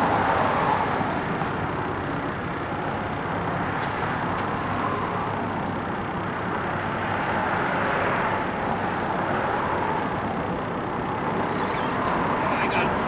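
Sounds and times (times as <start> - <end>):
highway traffic tyre noise: 0.0 - 13.0.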